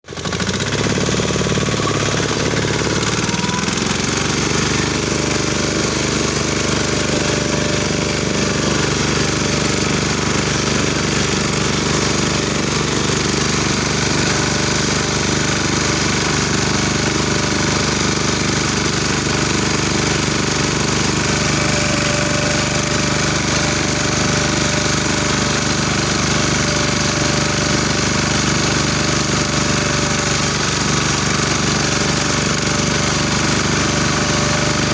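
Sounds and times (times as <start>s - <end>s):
engine drone: 0.1s - 34.9s
fast mechanical rattle: 0.1s - 34.9s.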